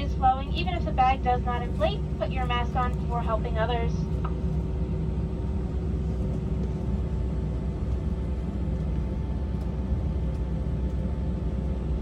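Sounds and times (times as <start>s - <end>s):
airliner cabin rumble: 0.0s - 12.0s
faint steady hum: 0.0s - 12.0s.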